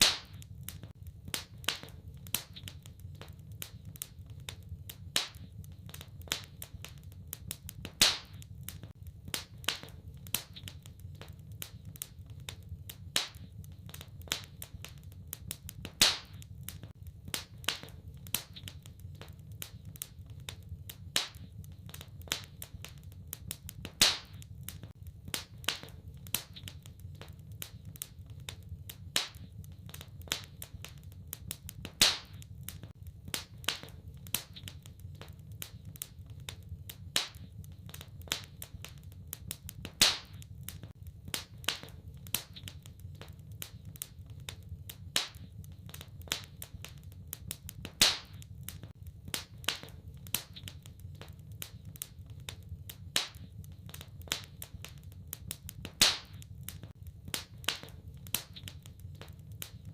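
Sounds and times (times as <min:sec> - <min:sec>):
fire rumbling low: 0:00.0 - 0:59.9
wood fire crackling: 0:00.0 - 0:59.9.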